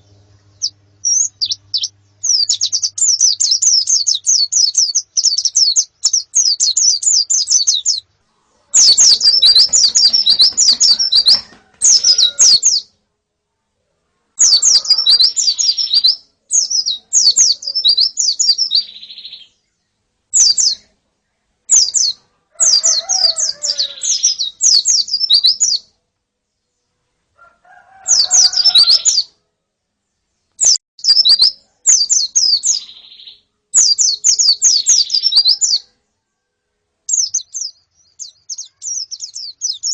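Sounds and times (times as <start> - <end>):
birds twittering: 0.0 - 13.0, 14.4 - 25.9, 26.6 - 29.3, 30.4 - 36.1, 37.1 - 39.9.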